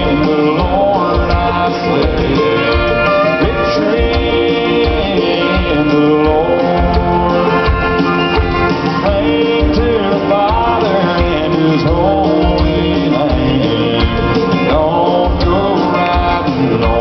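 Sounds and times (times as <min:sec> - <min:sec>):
live country band playing: 0:00.0 - 0:17.0
sliding lead melody: 0:00.0 - 0:17.0.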